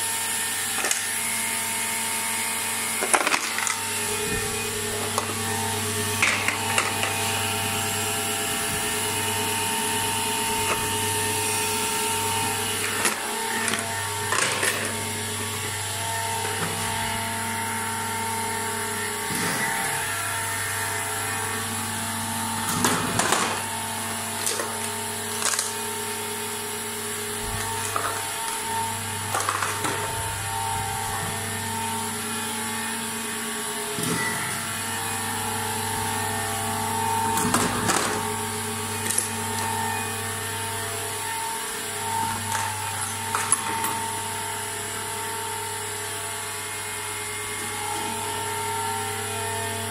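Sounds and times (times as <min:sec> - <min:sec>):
conveyor motor hum: 0:00.0 - 0:49.9.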